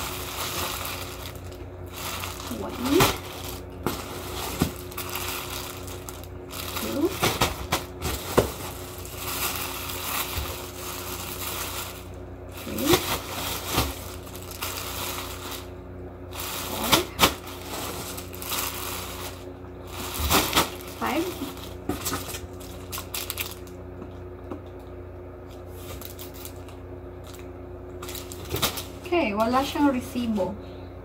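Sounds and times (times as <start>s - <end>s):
plastic packaging crinkling: 0.0s - 24.8s, 25.4s - 29.7s.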